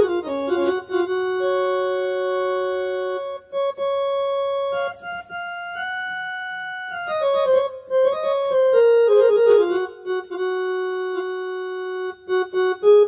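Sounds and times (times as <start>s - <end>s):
keyboard playing long held notes: 0.0s - 13.0s.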